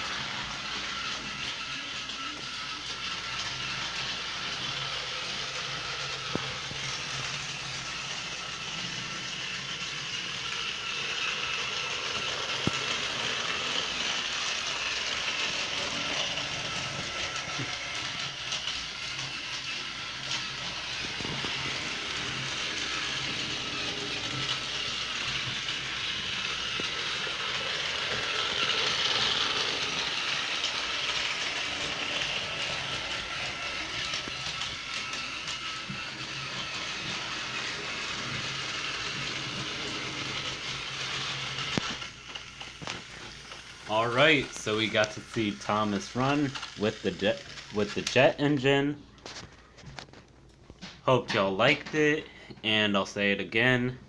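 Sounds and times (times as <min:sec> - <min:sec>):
toy train motor and gears: 0:00.0 - 0:50.2.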